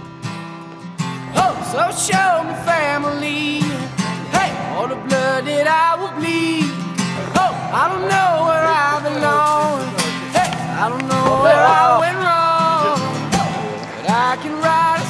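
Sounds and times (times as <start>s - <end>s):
folk-pop song with guitar and singing: 0.0s - 15.0s.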